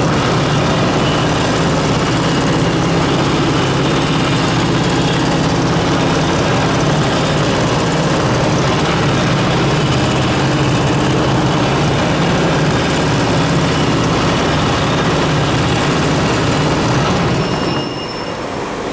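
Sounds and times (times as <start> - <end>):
quilting machine running: 0.0 - 18.0.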